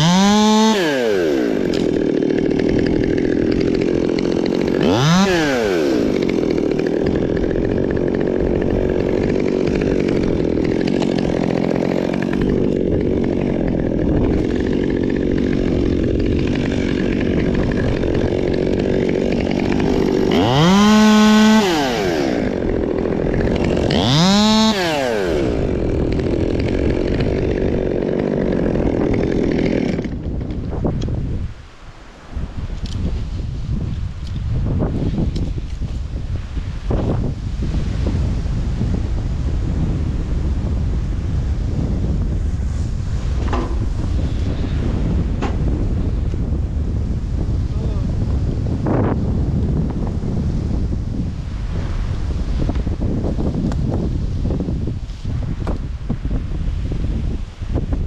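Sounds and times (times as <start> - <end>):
chainsaw idling and revving: 0.0 - 31.4, 36.9 - 56.4.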